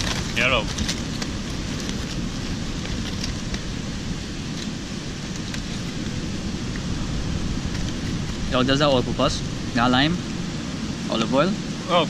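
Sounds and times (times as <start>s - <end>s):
surf: 0.0s - 12.0s
wind: 0.0s - 12.0s
wind buffeting microphone: 0.0s - 12.0s.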